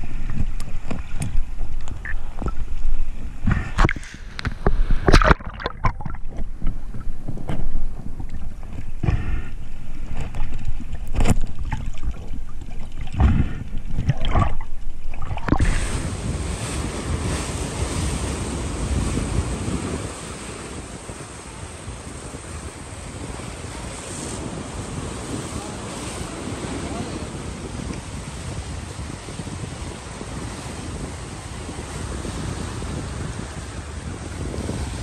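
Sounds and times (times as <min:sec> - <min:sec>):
muffled underwater splashing: 0:00.0 - 0:35.0
surf washing: 0:00.0 - 0:35.0
wind on microphone: 0:00.0 - 0:35.0.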